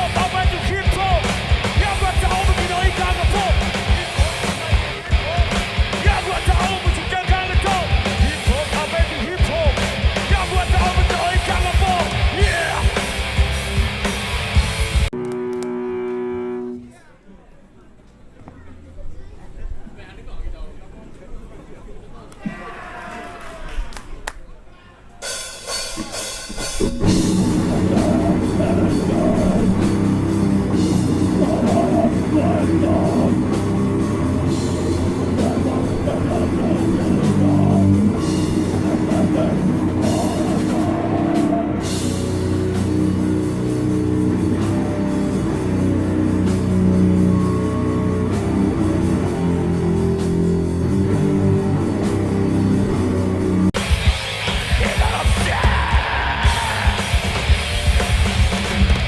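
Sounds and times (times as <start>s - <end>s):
death metal band playing live: 0.0s - 15.1s, 25.3s - 59.0s
drums: 0.0s - 15.3s, 25.0s - 59.0s
distorted electric guitars: 0.0s - 16.9s, 25.5s - 59.0s.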